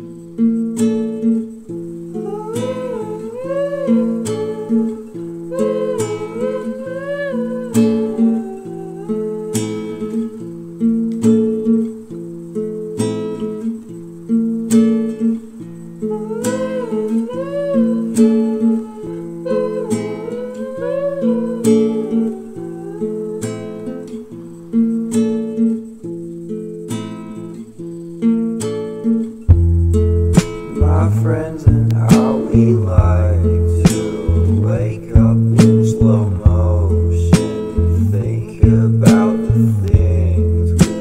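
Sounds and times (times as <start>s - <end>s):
acoustic guitar music: 0.0s - 41.0s.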